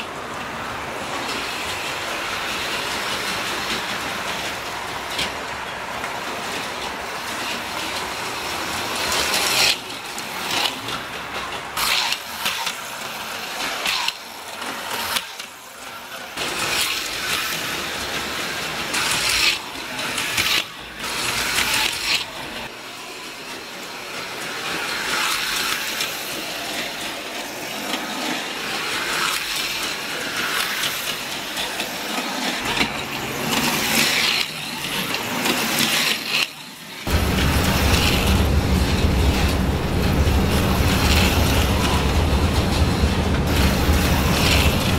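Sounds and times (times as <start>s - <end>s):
model train running: 0.0s - 44.9s
slot car motors whining: 0.6s - 44.9s.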